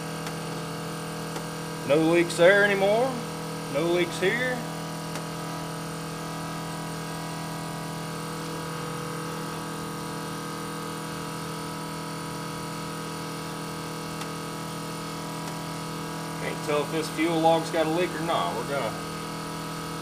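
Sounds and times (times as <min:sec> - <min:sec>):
electric fuel pump humming: 0:00.0 - 0:20.0.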